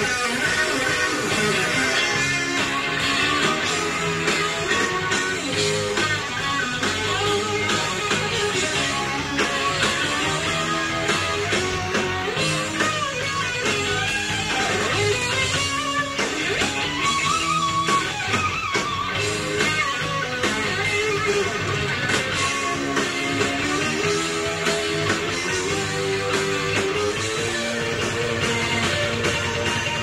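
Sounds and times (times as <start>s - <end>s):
electric guitar lead: 0.0s - 30.0s
live rock band playing: 0.0s - 30.0s.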